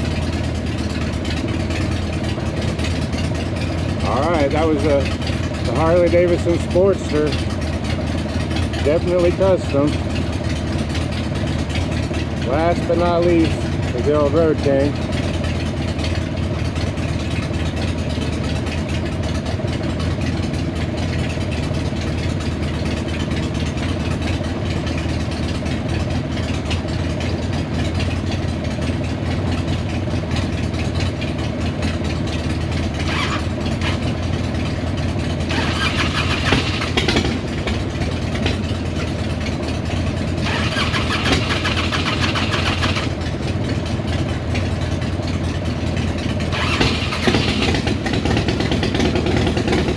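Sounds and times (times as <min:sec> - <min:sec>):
motorcycle engine starting: 0:00.0 - 0:49.9
motorcycle engines idling: 0:00.0 - 0:49.9.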